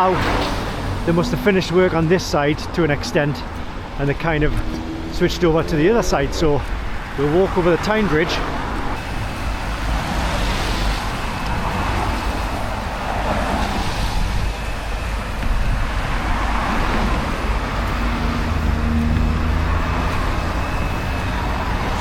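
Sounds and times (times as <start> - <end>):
cars passing: 0.0 - 22.0
low engine hum: 0.6 - 22.0.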